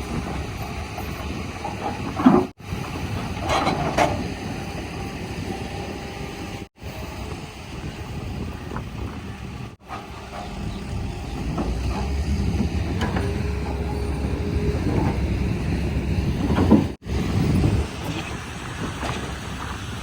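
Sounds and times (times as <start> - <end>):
heavy vehicle diesel engines running: 0.0 - 20.0.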